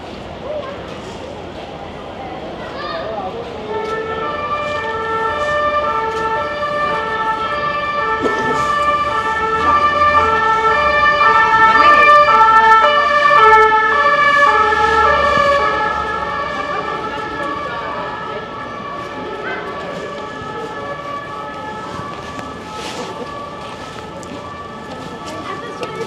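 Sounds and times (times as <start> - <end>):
two-tone emergency siren: 3.6 - 26.0.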